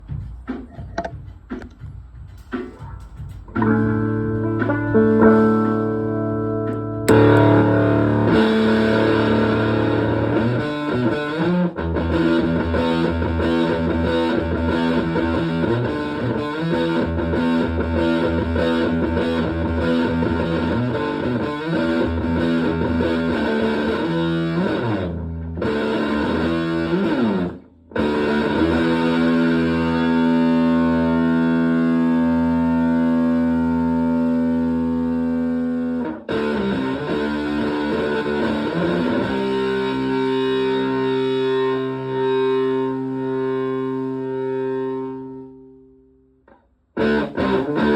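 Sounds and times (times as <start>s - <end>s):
fuzzy electric guitar riffs: 2.8s - 47.9s.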